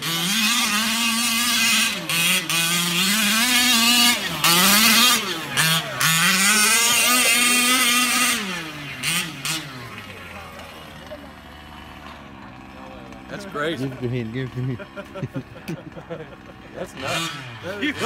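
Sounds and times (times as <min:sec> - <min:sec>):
small two-stroke engine revving: 0:00.0 - 0:18.0.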